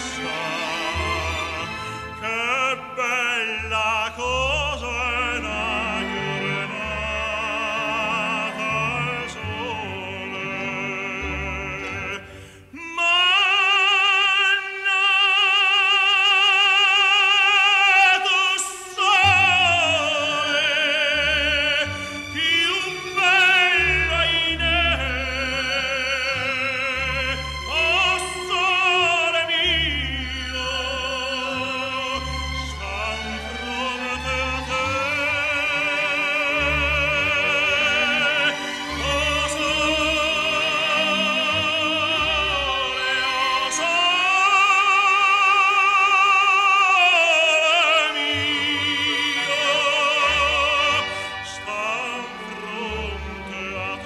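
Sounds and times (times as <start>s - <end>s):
operatic voice singing with vibrato: 0.0s - 54.0s.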